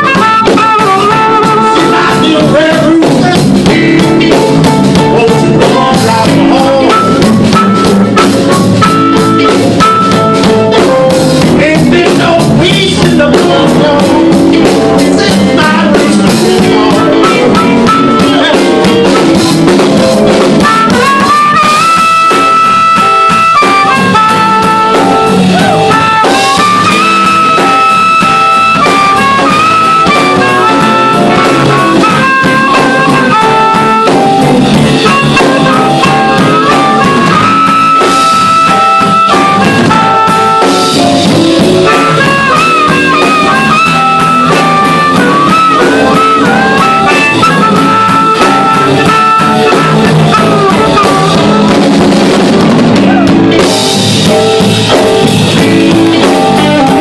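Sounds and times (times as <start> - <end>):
drum kit: 0.0 - 57.0
electric guitar: 0.0 - 57.0
harmonica solo: 0.0 - 57.0
piano: 0.0 - 57.0.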